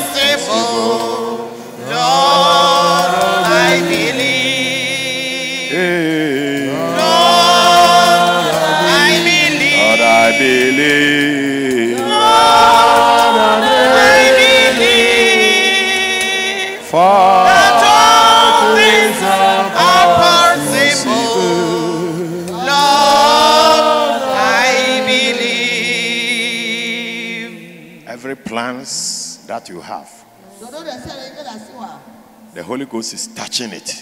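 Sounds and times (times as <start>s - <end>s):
man and woman singing: 0.0s - 28.1s
congregation singing: 0.0s - 34.0s.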